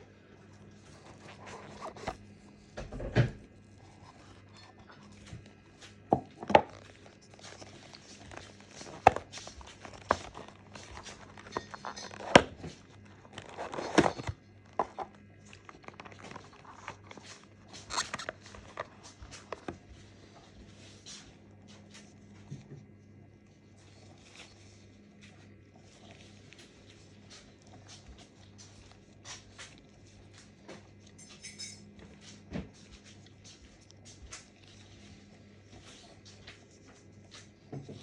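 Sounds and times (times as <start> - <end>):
plastic crinkling: 0.1 - 31.3.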